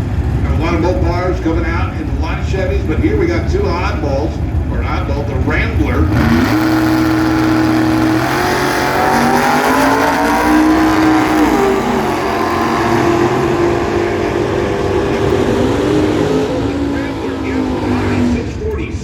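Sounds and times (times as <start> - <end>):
drag racing cars accelerating: 0.0 - 19.0.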